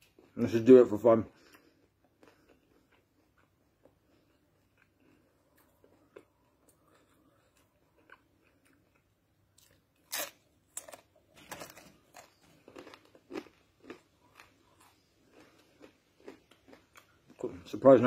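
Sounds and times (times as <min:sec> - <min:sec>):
person crunching corn chips: 0:01.4 - 0:17.6.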